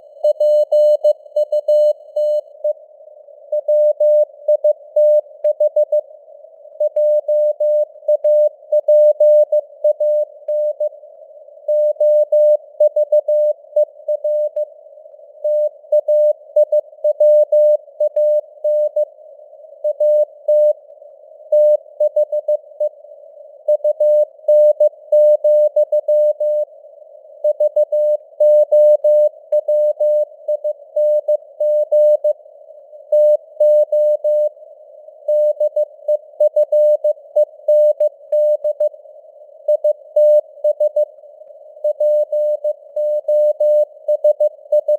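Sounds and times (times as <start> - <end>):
faint radio hiss: 1.2 - 44.9.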